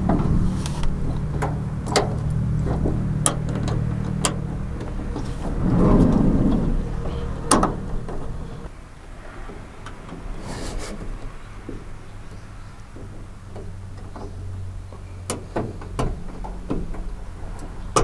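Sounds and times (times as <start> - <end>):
sharp clicks and knocks: 0.0 - 8.7, 10.9 - 18.0
steady low hum: 0.0 - 18.0.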